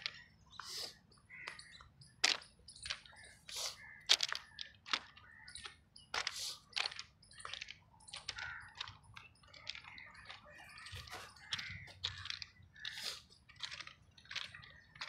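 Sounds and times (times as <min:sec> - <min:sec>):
footsteps crunching on gravel: 0:01.4 - 0:15.0.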